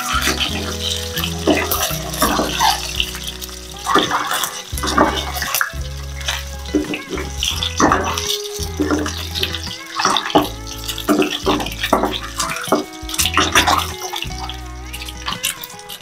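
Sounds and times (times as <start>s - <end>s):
background music: 0.0s - 16.0s
hot oil sizzling and spattering: 0.0s - 16.0s.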